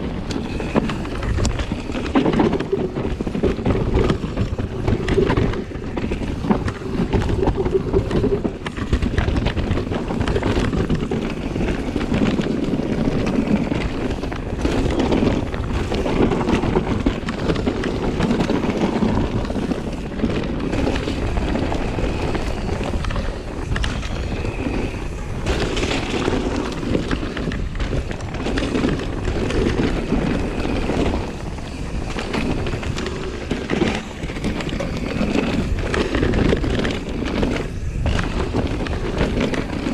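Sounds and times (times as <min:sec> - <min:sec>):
bike knocks and rattles: 0:00.0 - 0:39.9
tyres rolling and skidding on dirt: 0:00.0 - 0:39.9
wind buffeting microphone: 0:00.0 - 0:39.9.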